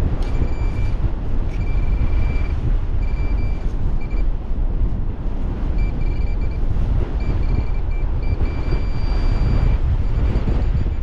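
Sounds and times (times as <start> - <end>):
wind buffeting microphone: 0.0 - 11.0
metal detector beeping: 0.2 - 4.3, 5.8 - 11.0.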